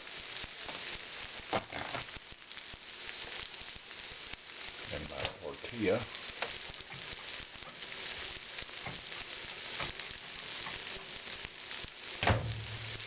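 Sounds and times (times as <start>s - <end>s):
egg sizzling in a skillet: 0.0s - 13.0s.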